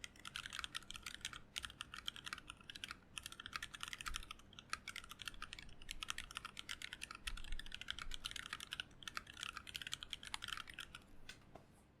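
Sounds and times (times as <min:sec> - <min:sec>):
mechanical keyboard typing: 0:00.0 - 0:11.1.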